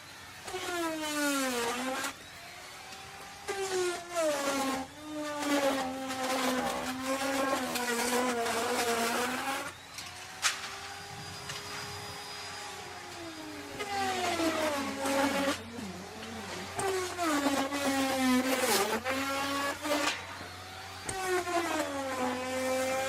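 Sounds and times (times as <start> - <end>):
wood router cutting: 0.0 - 23.0.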